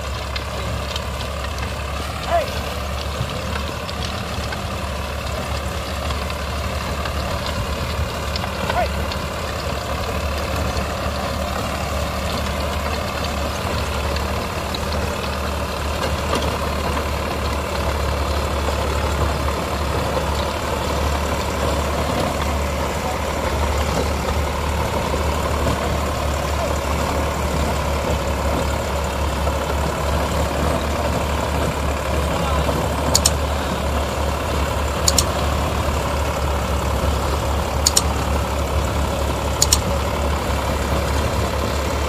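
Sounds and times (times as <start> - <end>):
rotary tiller rushing through soil: 0.0 - 42.0
tractor diesel engine running: 0.0 - 42.0.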